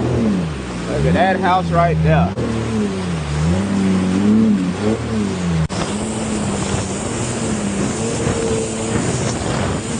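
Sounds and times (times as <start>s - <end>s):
jet ski engine running: 0.0s - 9.9s
water and wind rushing: 0.0s - 9.9s.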